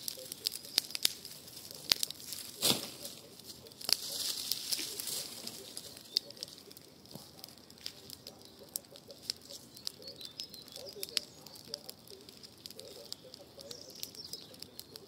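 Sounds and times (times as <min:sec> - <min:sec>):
high hiss of fire: 0:00.0 - 0:14.5
campfire crackling and popping: 0:00.0 - 0:15.0.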